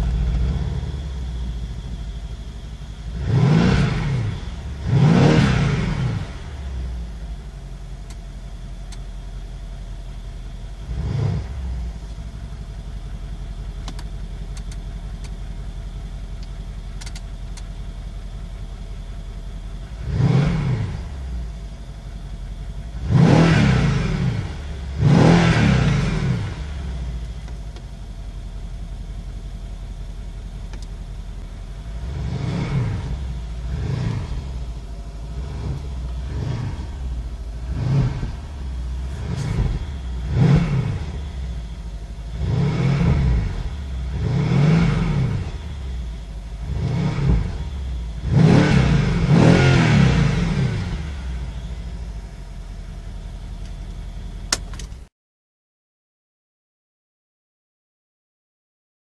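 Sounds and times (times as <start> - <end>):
car engine idling and revving: 0.0 - 55.1.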